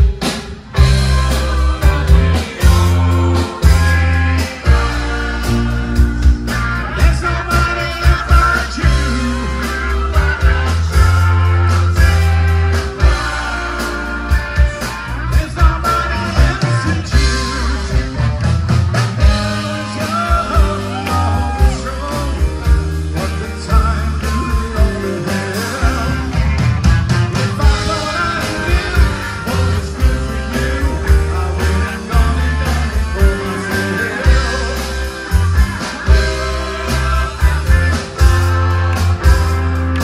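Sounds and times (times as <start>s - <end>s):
live rock band playing: 0.0s - 40.0s
group of voices singing: 0.8s - 18.4s, 19.2s - 26.7s, 27.3s - 40.0s.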